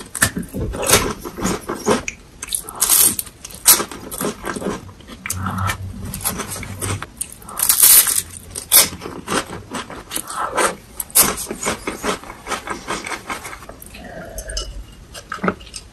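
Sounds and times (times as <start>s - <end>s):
crispy food crunching: 0.0s - 15.9s.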